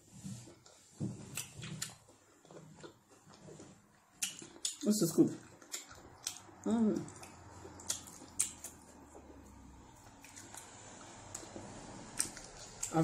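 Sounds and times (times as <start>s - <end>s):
wet eating squishes: 0.5s - 13.0s.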